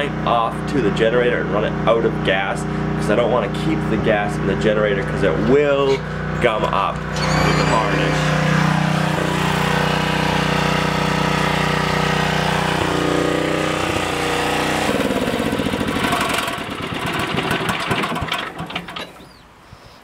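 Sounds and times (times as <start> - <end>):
portable generator engine running: 0.0 - 19.3.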